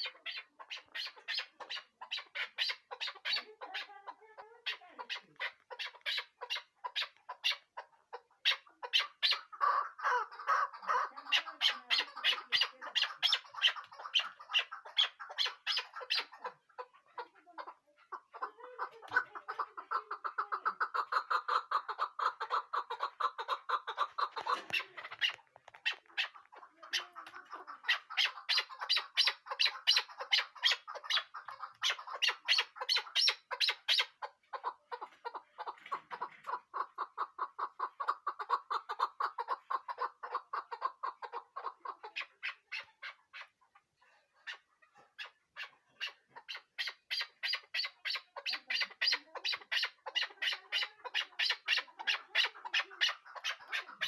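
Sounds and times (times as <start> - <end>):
partridge chuck calls: 0.0 - 54.0.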